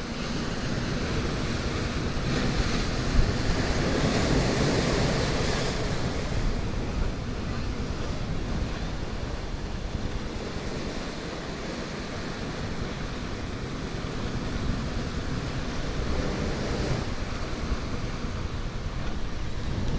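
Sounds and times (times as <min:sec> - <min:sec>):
ocean surf: 0:00.0 - 0:19.9
wind on microphone: 0:00.0 - 0:19.9.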